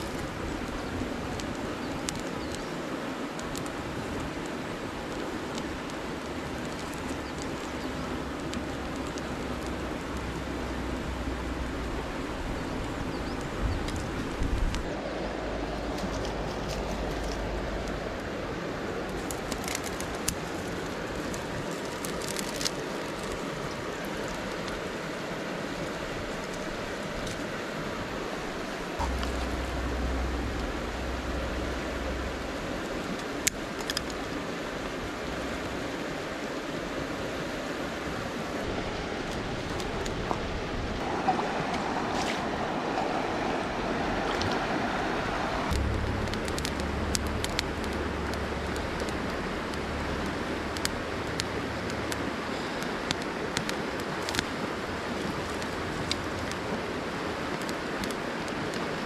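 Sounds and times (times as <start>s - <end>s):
river flowing over stones: 0.0s - 59.0s.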